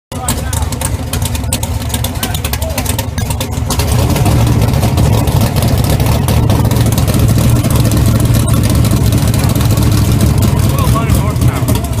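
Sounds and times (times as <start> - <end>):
car engine running loud: 0.1 - 12.0.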